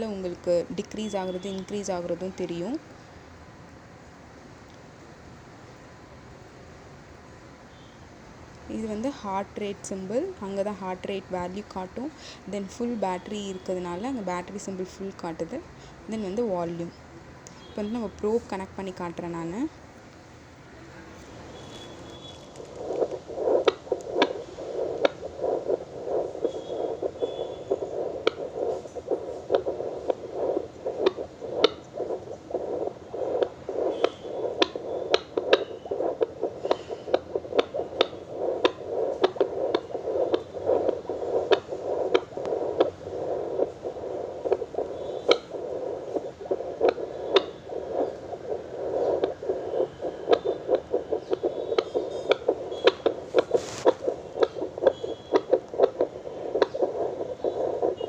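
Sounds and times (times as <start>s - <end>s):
fetal doppler hiss with clicks: 0.0s - 7.2s, 8.1s - 20.4s, 21.0s - 58.0s.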